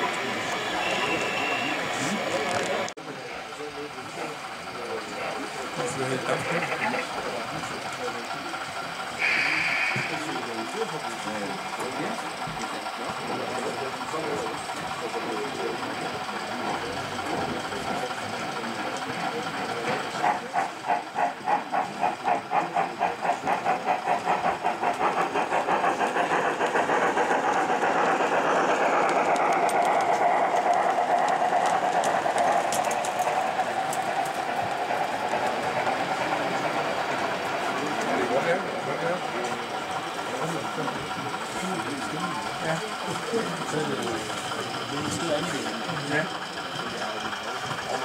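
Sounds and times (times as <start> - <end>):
model steam locomotive chuffing: 0.0 - 48.0.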